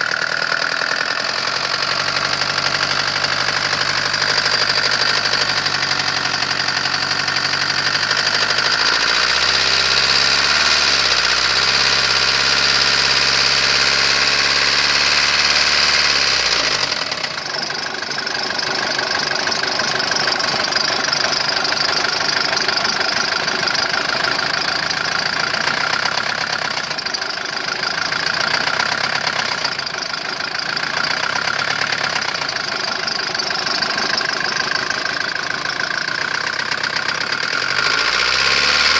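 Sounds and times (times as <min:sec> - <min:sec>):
diesel engine knocking: 0:00.0 - 0:38.9.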